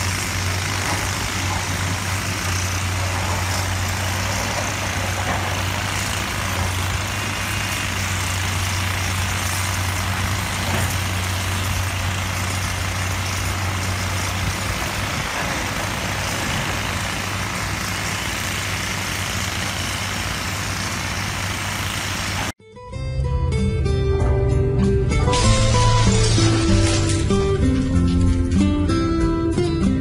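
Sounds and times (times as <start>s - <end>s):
rock drill rig engine drone: 0.0s - 30.0s.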